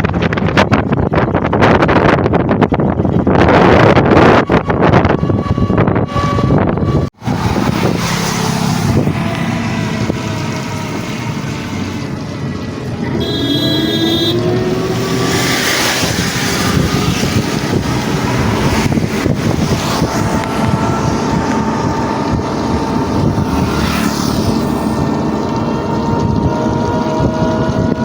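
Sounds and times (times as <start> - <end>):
wind buffeting microphone: 0.0 - 28.0
loud rushing noise: 3.9 - 26.5.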